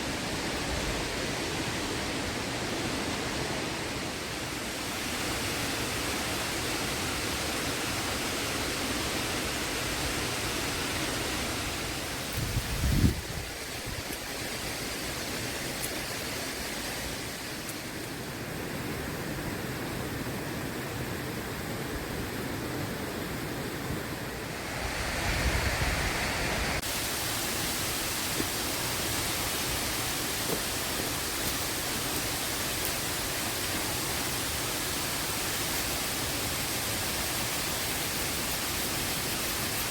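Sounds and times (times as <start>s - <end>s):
waterfall rushing: 0.0s - 12.4s, 13.2s - 39.9s.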